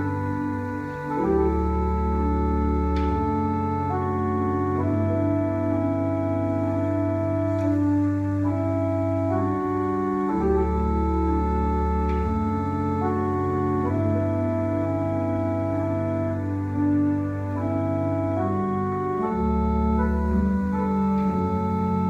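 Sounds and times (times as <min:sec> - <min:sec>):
pipe organ playing held chords: 0:00.0 - 0:22.0.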